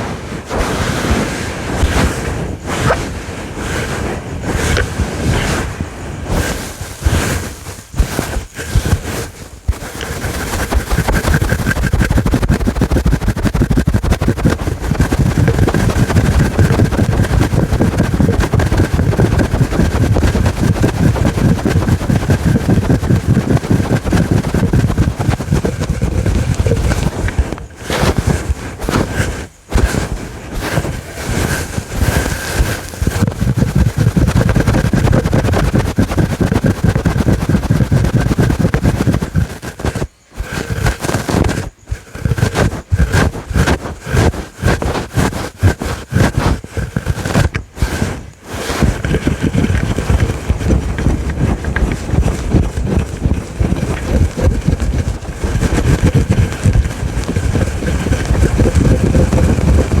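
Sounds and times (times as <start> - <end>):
scratching on microphone windscreen: 0.0 - 60.0.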